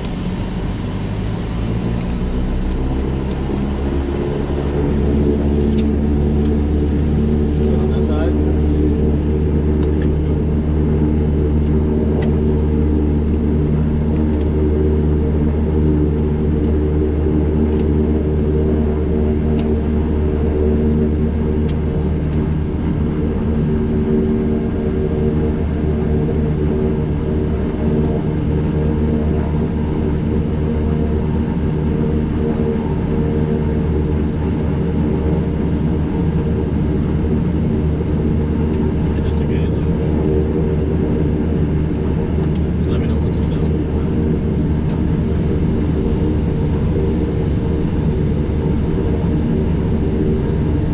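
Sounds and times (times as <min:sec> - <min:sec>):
turboprop engines droning: 0:00.0 - 0:50.9.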